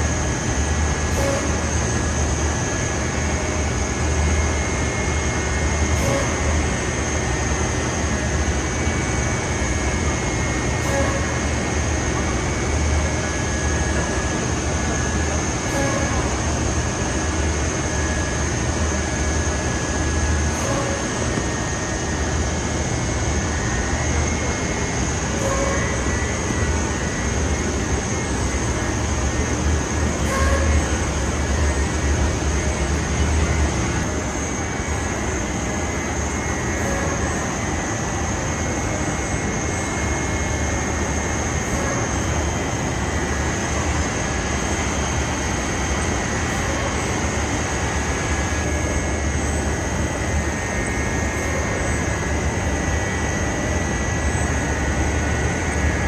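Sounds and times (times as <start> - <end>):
factory machinery running: 0.0 - 56.0
thin high whine: 4.2 - 56.0.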